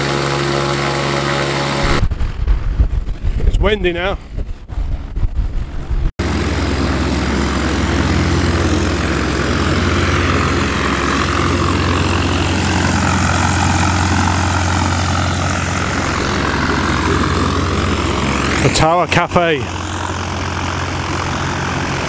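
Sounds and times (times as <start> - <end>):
light aircraft engine drone: 0.0 - 2.0, 4.2 - 22.0.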